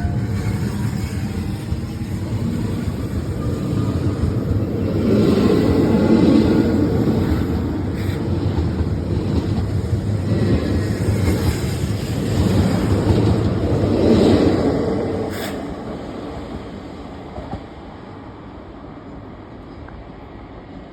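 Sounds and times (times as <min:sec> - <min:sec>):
train wheels rumbling on rails: 0:00.0 - 0:18.2.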